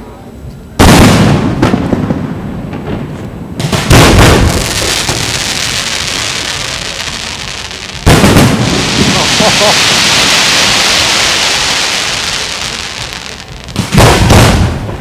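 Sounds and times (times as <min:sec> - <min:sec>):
fireworks crackling hiss: 0:00.0 - 0:15.0
fireworks booming: 0:00.7 - 0:15.0.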